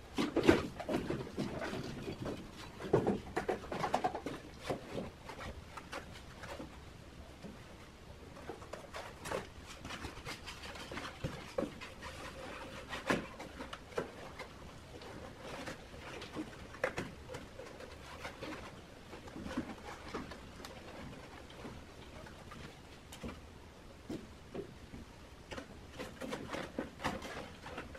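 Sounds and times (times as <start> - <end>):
cardboard and plastic rustling: 0.0 - 27.9.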